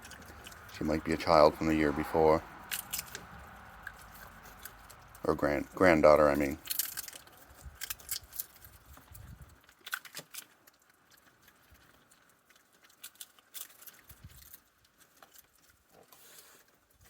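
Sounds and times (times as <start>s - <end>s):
raccoon paws clicking and tapping: 0.0s - 1.5s, 2.6s - 17.0s.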